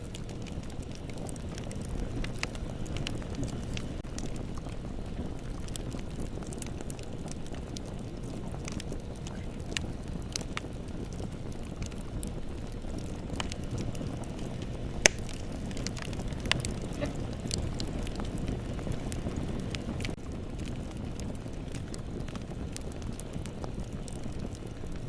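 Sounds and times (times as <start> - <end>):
bonfire flames rumbling: 0.0 - 25.0
fire crackling and popping: 0.0 - 25.0.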